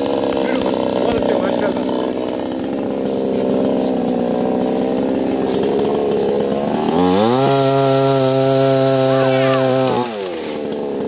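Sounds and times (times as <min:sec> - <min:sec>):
chainsaw cutting branch: 0:00.0 - 0:11.0
chainsaw idling roughly: 0:00.0 - 0:11.0
chainsaw revving: 0:00.0 - 0:11.0.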